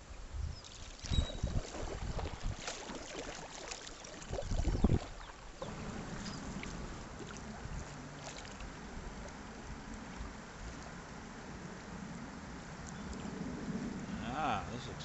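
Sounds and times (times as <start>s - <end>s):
river water: 0.0s - 15.0s
paddle strokes splashing: 0.6s - 14.2s.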